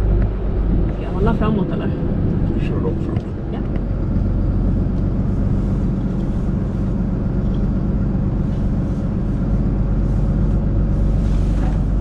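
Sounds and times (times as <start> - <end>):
road noise: 0.0 - 12.0
truck diesel engine running: 0.0 - 12.0.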